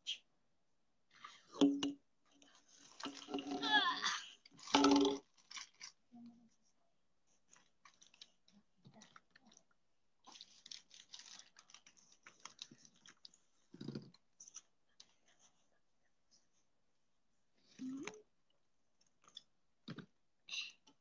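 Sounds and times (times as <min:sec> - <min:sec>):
faint clicks and rustles of handling: 0:01.1 - 0:21.0.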